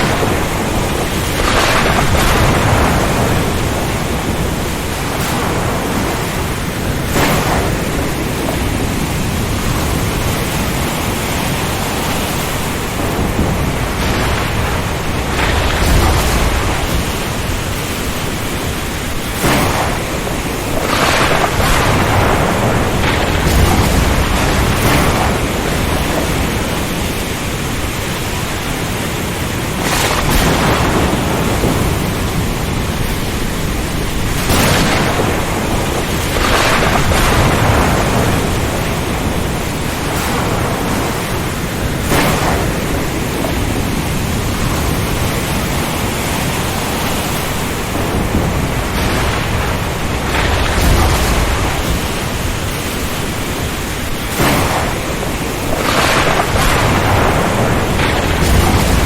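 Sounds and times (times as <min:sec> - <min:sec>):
waves breaking: 0:00.0 - 0:59.0
wind and rain rushing: 0:00.0 - 0:59.0.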